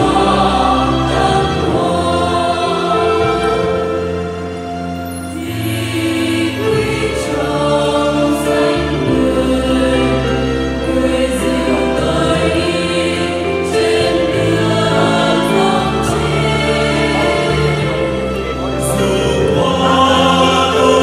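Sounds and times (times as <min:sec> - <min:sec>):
electronic keyboard: 0:00.0 - 0:21.0
mixed choir singing a hymn: 0:00.0 - 0:21.0.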